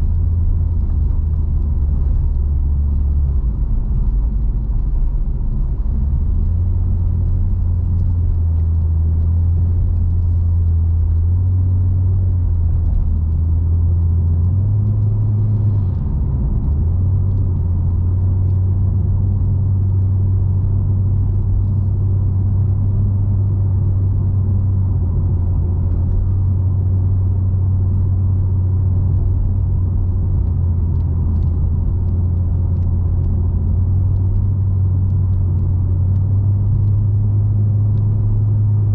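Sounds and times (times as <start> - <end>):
car engine drone: 0.0 - 38.9
tyre road noise: 0.0 - 38.9.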